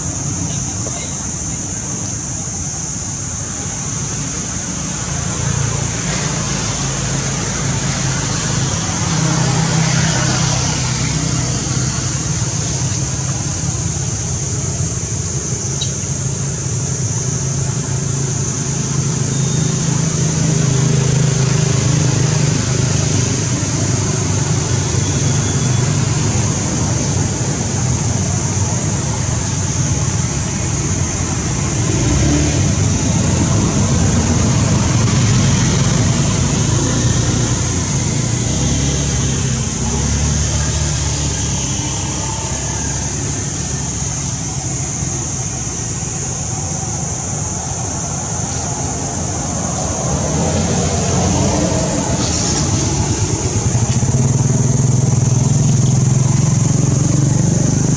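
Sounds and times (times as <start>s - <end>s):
high-pitched hiss: 0.0s - 57.9s.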